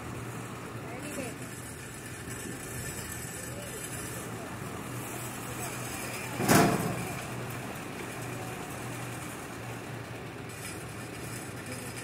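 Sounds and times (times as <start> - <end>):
tractor engine running low: 0.0 - 12.0.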